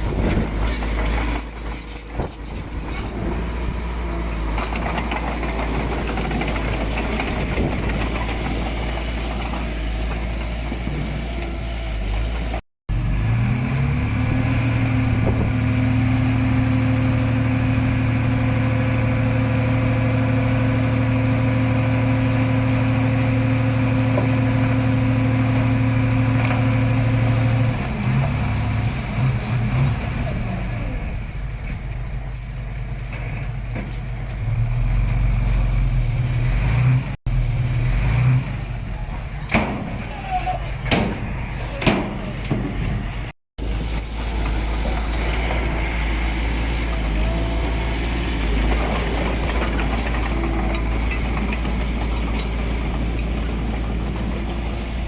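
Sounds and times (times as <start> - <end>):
diesel machinery engines rumbling: 0.0 - 55.0.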